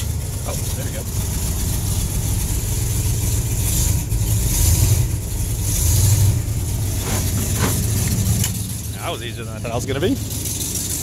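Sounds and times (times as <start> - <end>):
pickup truck engine running: 0.0 - 11.0.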